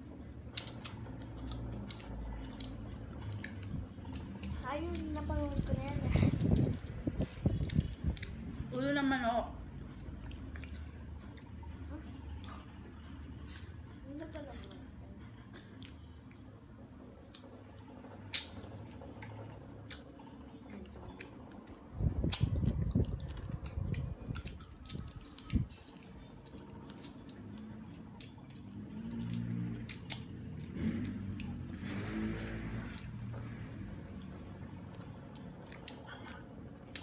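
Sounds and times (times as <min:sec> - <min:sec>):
people chewing: 0:00.1 - 0:08.7, 0:09.7 - 0:37.0.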